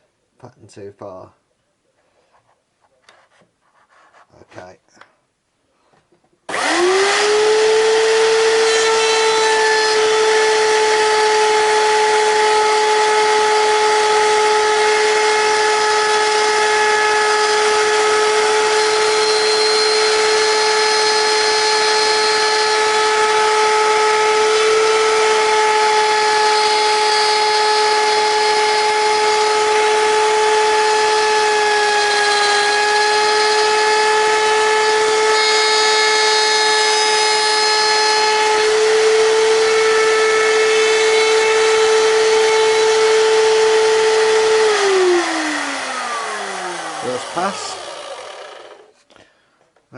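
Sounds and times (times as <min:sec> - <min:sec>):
router motor whine: 0:06.5 - 0:49.0.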